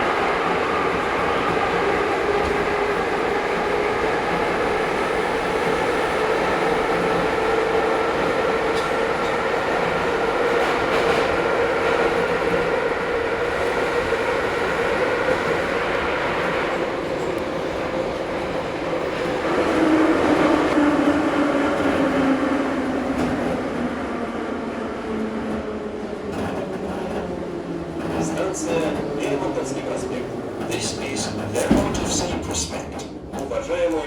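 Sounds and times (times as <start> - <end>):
train wheels rumbling on rails: 0.0 - 34.0
train whine: 0.0 - 34.0.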